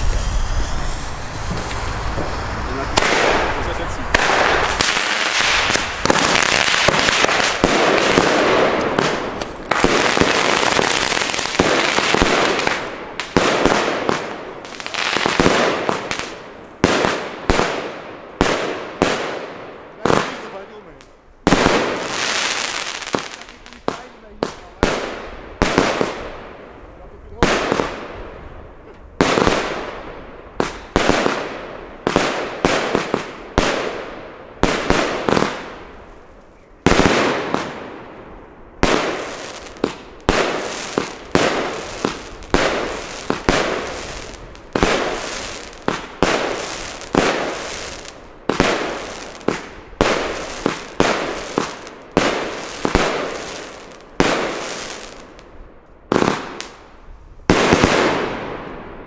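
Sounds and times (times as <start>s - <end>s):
fireworks banging: 0.0s - 26.7s, 27.3s - 59.0s.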